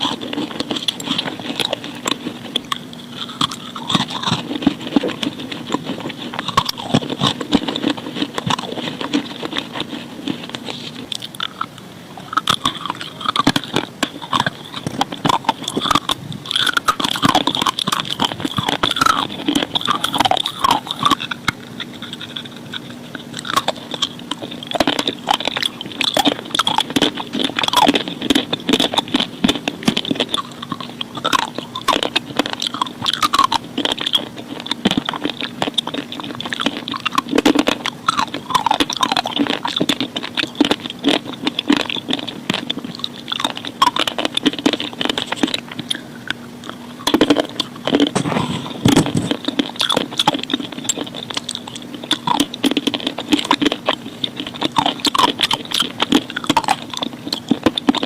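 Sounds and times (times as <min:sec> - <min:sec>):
crunching and chewing chalk: 0:00.0 - 0:58.0
faint steady hum: 0:00.0 - 0:58.0.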